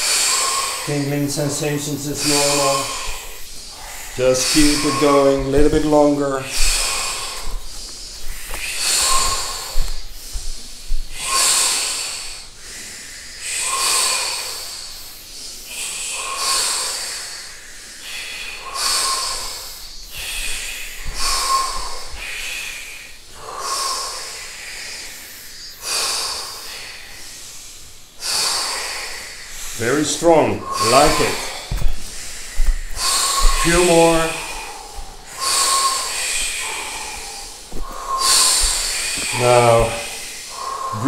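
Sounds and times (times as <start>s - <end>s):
deep forceful breathing: 0.0s - 41.0s.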